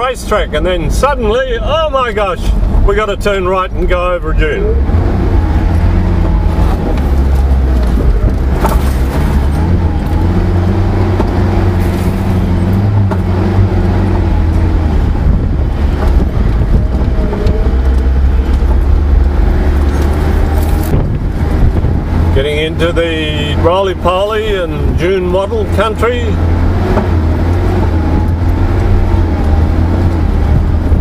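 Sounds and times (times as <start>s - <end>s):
vehicle engine drone: 0.0s - 31.0s.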